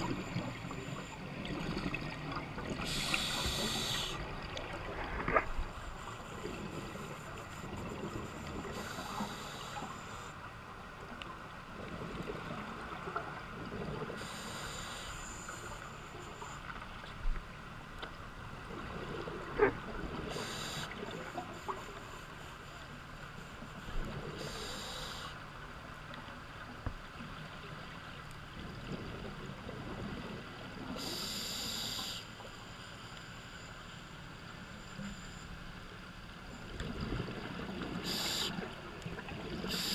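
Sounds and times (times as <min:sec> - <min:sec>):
muffled underwater ambience: 0:00.0 - 0:39.9.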